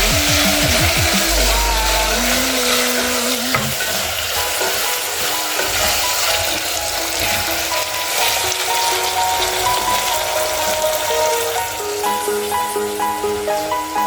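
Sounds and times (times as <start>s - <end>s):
background music: 0.0s - 14.0s
onions sizzling in a pan: 1.4s - 14.0s.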